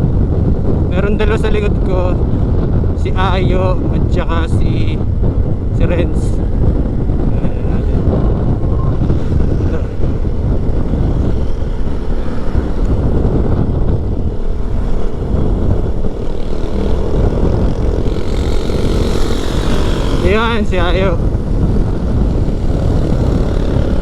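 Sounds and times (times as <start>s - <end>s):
motorcycle engine drone: 0.0s - 24.0s
wind buffeting: 0.0s - 24.0s.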